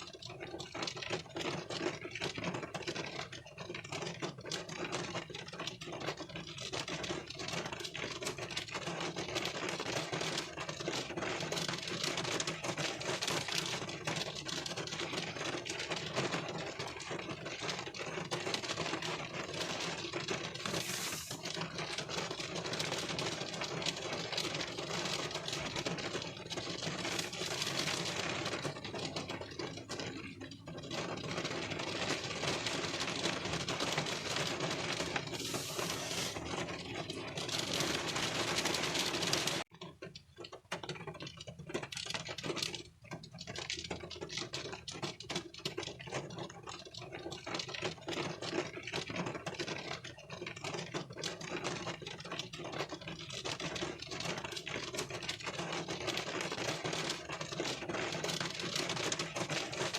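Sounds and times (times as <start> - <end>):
rain on a car windshield: 0.0 - 59.9.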